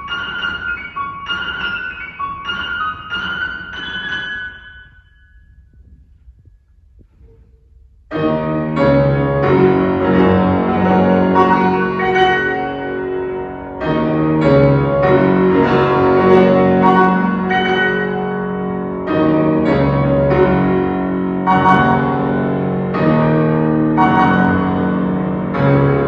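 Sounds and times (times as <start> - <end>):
piano duet: 0.0 - 26.0.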